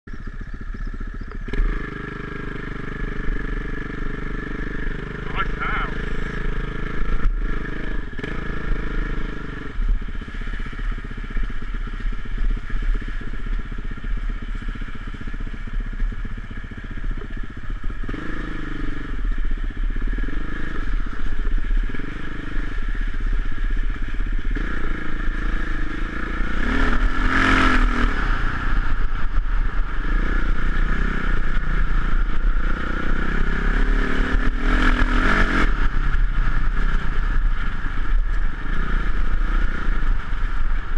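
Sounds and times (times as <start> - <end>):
dirt bike engine revving: 0.8 - 40.9.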